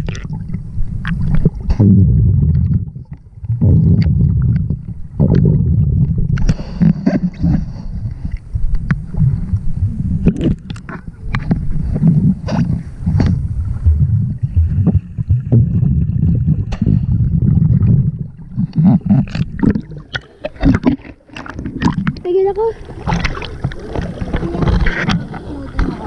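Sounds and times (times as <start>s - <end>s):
clicks and knocks underwater: 0.0s - 26.0s
underwater rumble of moving water: 0.0s - 26.0s.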